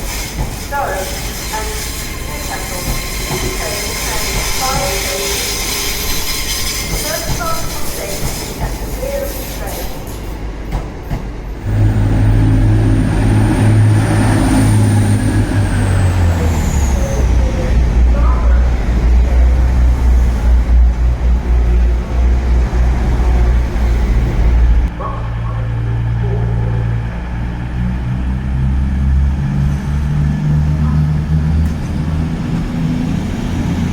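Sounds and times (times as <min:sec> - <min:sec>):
diesel train engine running: 0:00.0 - 0:33.9.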